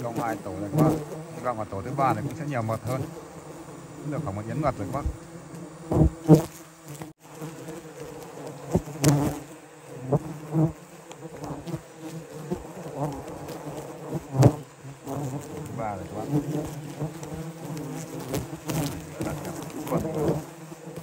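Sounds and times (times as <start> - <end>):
bees buzzing around nest: 0.0 - 21.0
bees zipping past: 0.0 - 21.0.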